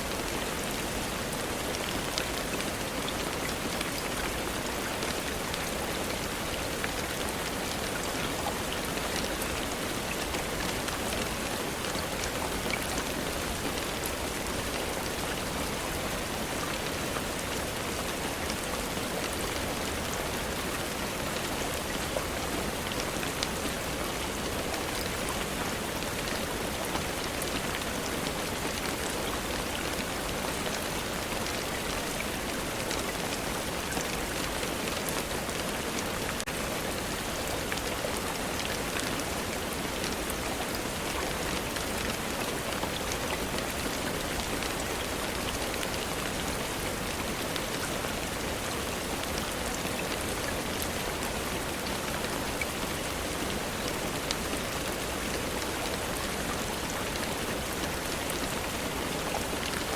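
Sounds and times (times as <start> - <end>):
rain hissing on surfaces: 0.0 - 59.9.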